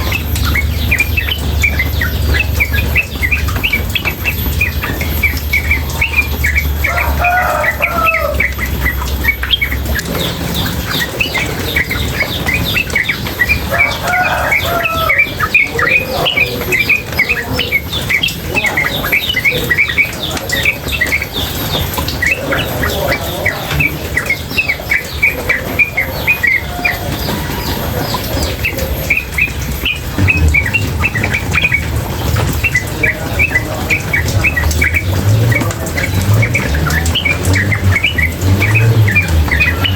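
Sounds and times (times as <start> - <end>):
bird chattering: 0.0 - 39.9
running water: 0.0 - 39.9.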